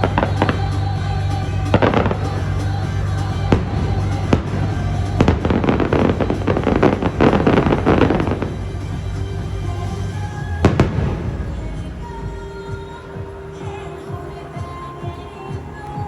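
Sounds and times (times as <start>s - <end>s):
fireworks bangs: 0.0s - 16.0s
fireworks crackling: 0.0s - 16.0s
music soundtrack: 0.0s - 16.0s.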